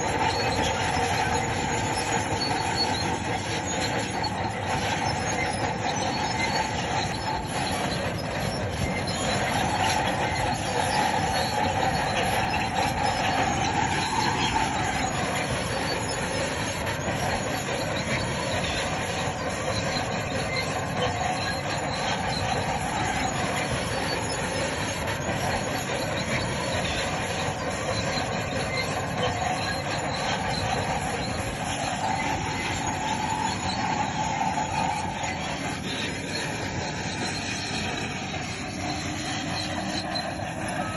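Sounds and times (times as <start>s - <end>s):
bulldozer tracks squealing and clanking: 0.0s - 40.9s
diesel engine running: 0.0s - 40.9s.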